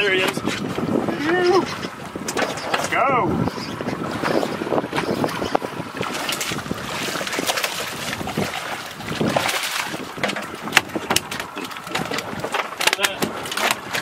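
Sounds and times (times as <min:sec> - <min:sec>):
water around a boat: 0:00.0 - 0:14.0
wind buffeting microphone: 0:00.0 - 0:14.0.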